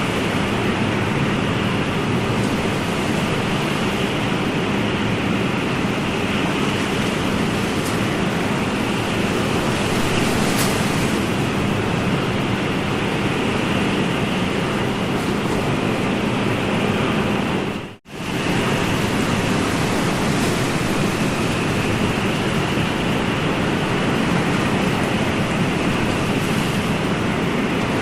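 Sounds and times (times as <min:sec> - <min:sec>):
ocean surf rushing: 0:00.0 - 0:28.0.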